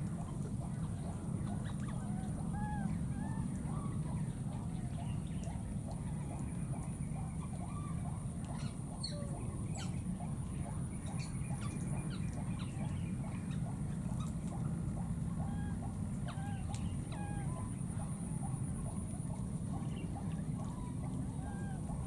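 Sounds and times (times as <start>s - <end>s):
steady low rumble: 0.0s - 22.0s
chirping animal calls: 0.2s - 22.0s.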